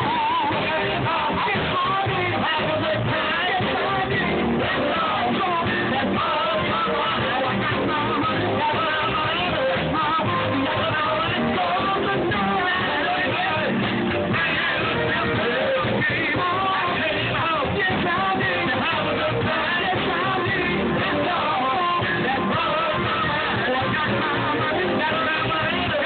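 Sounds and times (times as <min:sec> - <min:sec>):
guitar: 0:00.0 - 0:26.0
live band playing: 0:00.0 - 0:26.0
man singing into a microphone: 0:00.0 - 0:26.0.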